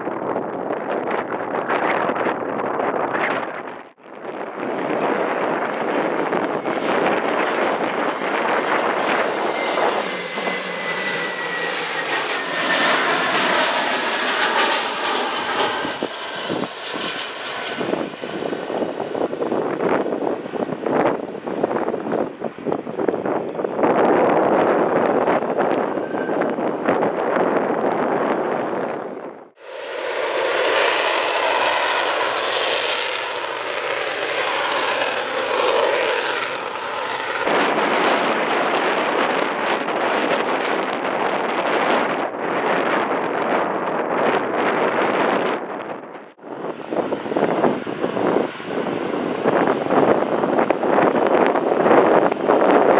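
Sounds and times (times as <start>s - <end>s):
jet engines roaring with whine: 0.0s - 52.9s.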